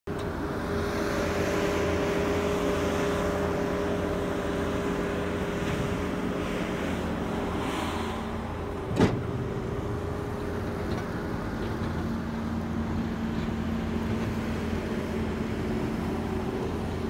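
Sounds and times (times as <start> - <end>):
vehicle engine humming: 0.1 - 17.0.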